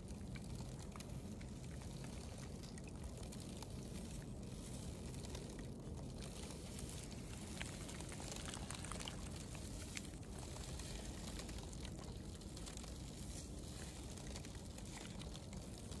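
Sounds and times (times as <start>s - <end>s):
ice ticking and crackling: 0.0s - 16.0s
low steady rumble: 0.0s - 16.0s
water lapping at shore ice: 0.0s - 16.0s.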